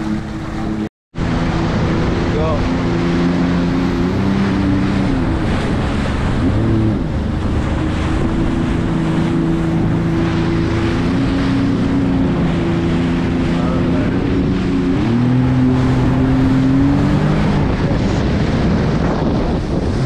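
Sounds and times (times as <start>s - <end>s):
jet ski engine running: 0.0s - 20.0s
wind buffeting microphone: 0.0s - 20.0s.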